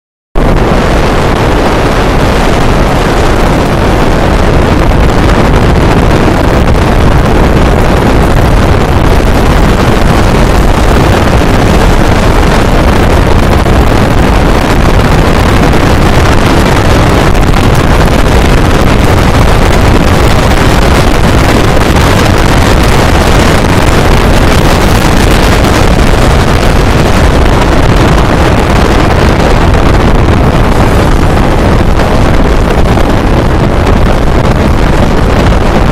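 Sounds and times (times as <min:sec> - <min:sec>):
wind on microphone: 0:00.4 - 0:35.9.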